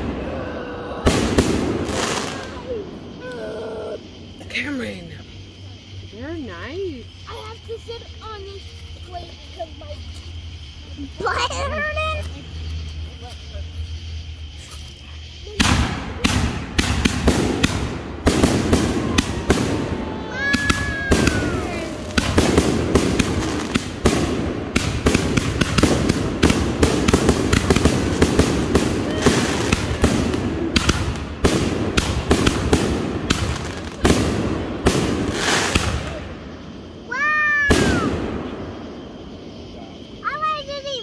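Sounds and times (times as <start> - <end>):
fireworks bangs and crackling: 0.0 - 3.3, 6.3 - 41.0.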